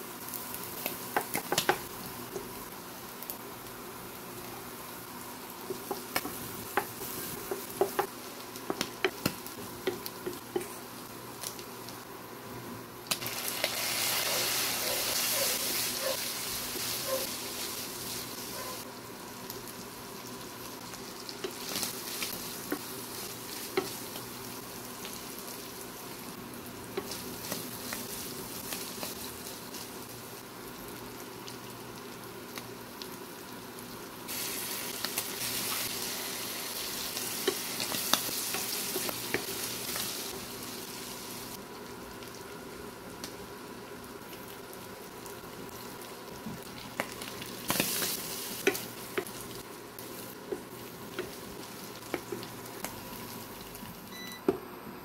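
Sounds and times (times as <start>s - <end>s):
fish sizzling in a wok: 0.0s - 12.0s, 13.0s - 54.4s.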